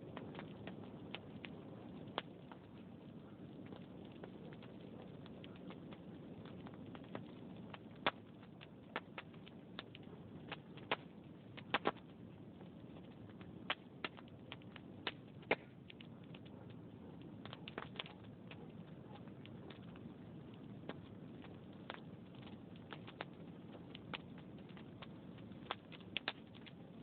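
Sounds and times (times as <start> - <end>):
log fire crackling: 0.0 - 27.0.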